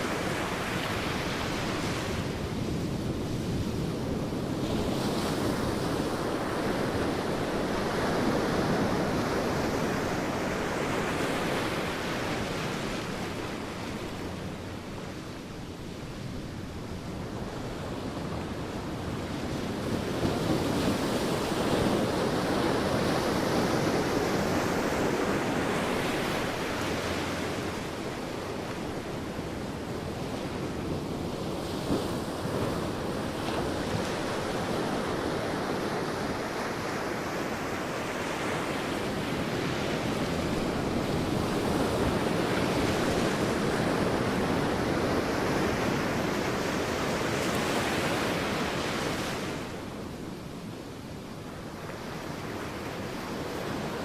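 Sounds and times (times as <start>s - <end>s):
sea waves breaking on beach: 0.0s - 54.0s
wind on microphone: 0.0s - 54.0s.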